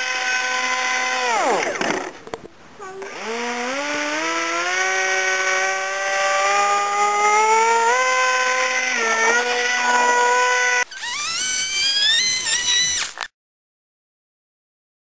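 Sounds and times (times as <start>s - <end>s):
model plane motor whine: 0.0s - 2.2s, 2.9s - 13.3s.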